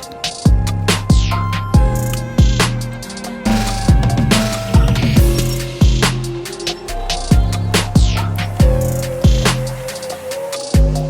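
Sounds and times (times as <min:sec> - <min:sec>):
electronic music with bass kicks: 0:00.0 - 0:11.0.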